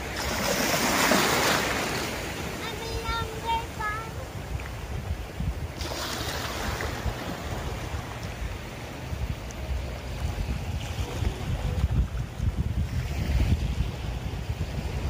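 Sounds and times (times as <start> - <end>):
small waves washing: 0.0 - 15.0
wind buffeting microphone: 0.0 - 15.0.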